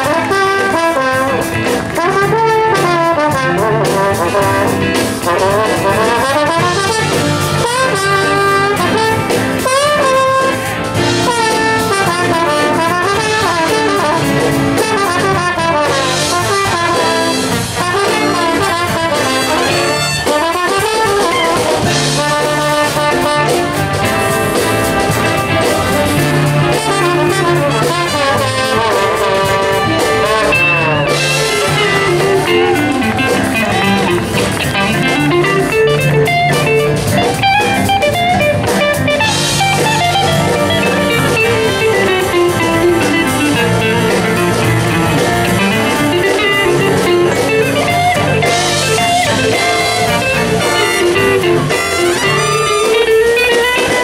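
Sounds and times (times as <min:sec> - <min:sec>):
brass section: 0:00.0 - 0:54.0
jazz big band playing: 0:00.0 - 0:54.0.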